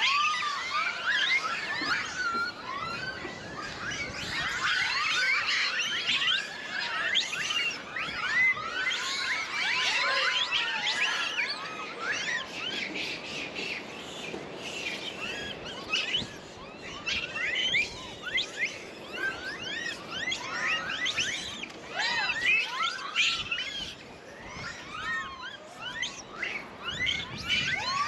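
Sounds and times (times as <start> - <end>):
macaques coo calls: 0.0 - 28.0.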